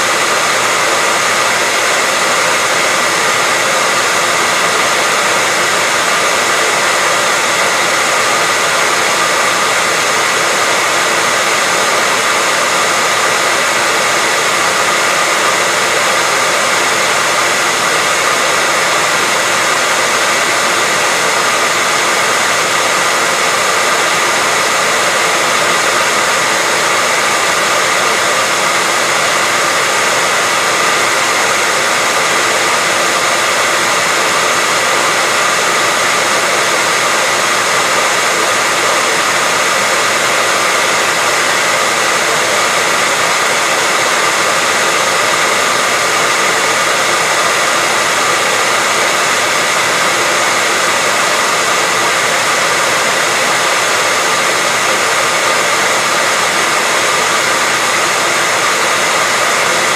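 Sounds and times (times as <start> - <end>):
hair dryer blowing air: 0.0 - 59.9.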